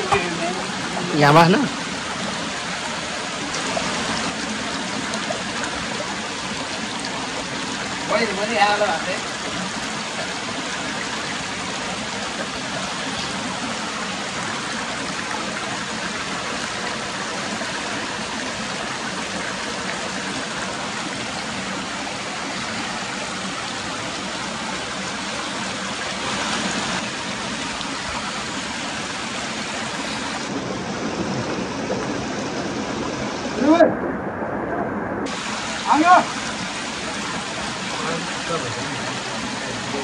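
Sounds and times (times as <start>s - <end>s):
stream rushing over stones: 0.0s - 40.0s.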